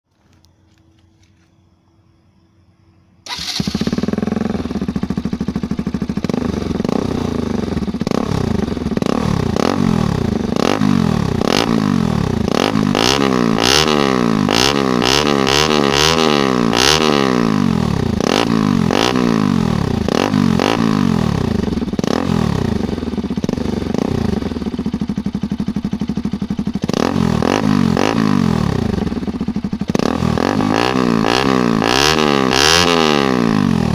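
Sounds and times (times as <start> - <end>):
motorcycle engine revving: 3.2 - 33.9.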